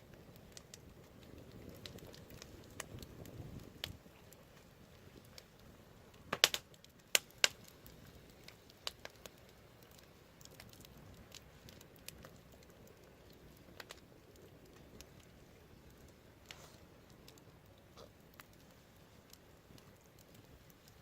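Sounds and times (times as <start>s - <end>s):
low steady hiss: 0.0s - 21.0s
wood fire crackling: 0.0s - 21.0s
fire popping sharply: 0.1s - 21.0s.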